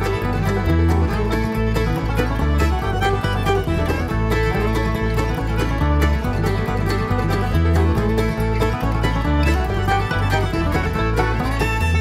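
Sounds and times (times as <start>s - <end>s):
plucked-string bluegrass tune: 0.0s - 12.0s
steady bass line: 0.0s - 12.0s.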